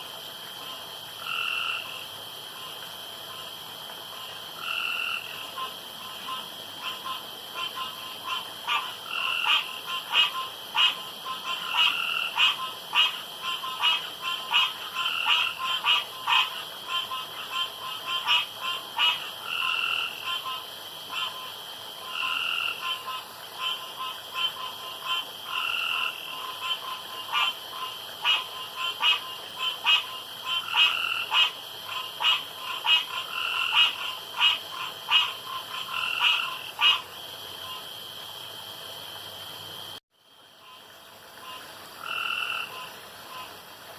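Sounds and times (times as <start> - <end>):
high frog chorus: 0.0 - 38.7, 40.5 - 43.5
frogs croaking: 0.0 - 43.9.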